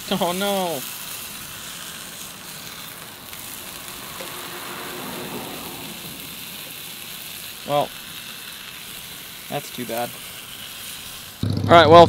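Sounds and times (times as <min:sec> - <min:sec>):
fish sizzling in a frying pan: 0:00.0 - 0:11.4.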